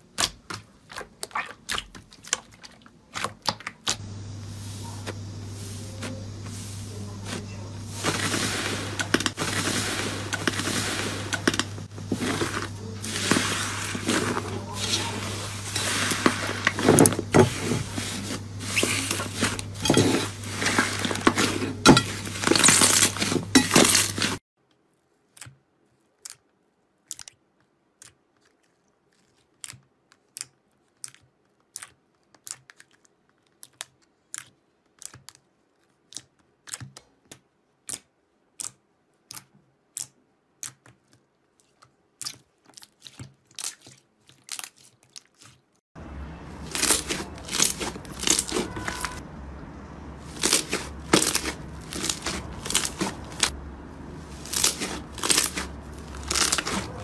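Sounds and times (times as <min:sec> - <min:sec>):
slime crackling: 0:00.0 - 0:24.4, 0:25.2 - 0:49.2, 0:50.2 - 0:57.0.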